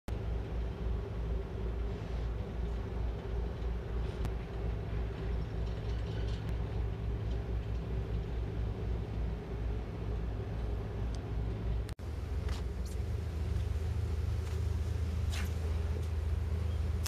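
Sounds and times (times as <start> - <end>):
ship engine droning: 0.1 - 17.0.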